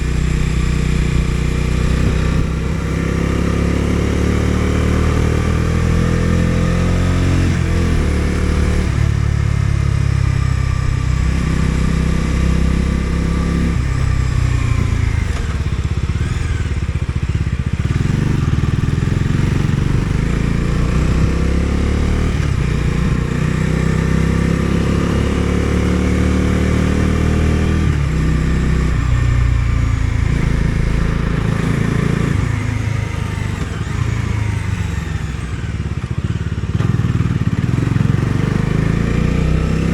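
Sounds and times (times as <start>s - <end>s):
motorcycle engine through gear changes: 0.0s - 39.9s
wind and road noise: 0.0s - 39.9s.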